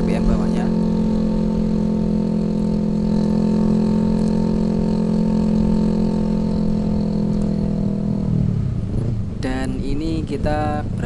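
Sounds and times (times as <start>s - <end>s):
scooter engine cruising: 0.0s - 11.0s
wind rumble on microphone: 0.0s - 11.0s.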